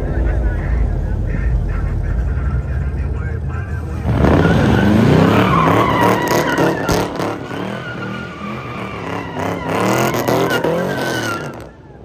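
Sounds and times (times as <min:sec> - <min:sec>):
car engine revving: 0:00.0 - 0:12.0
tyres squealing: 0:00.0 - 0:12.0.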